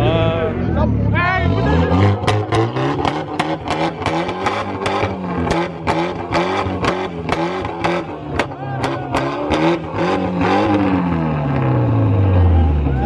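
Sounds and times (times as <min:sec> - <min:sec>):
car engine at high rev: 0:00.0 - 0:13.0.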